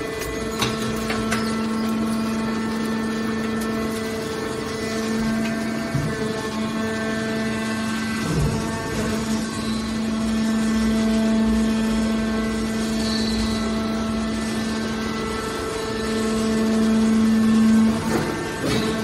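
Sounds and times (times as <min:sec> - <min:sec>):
baler machine hum: 0:00.0 - 0:19.0.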